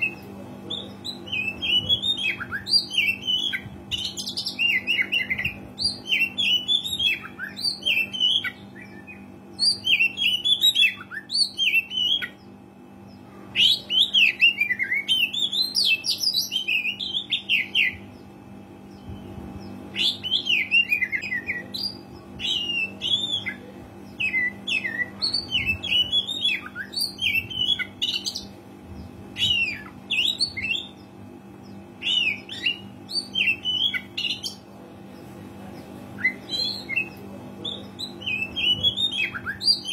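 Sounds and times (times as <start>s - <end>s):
bird singing: 0.0s - 28.6s, 29.4s - 39.9s
steady low hum: 0.0s - 39.9s.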